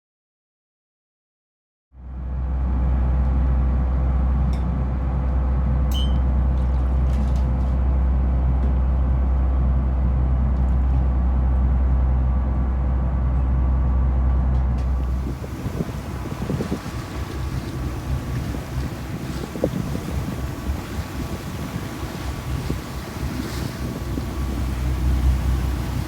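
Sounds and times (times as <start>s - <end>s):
boat engine droning: 2.0s - 26.0s.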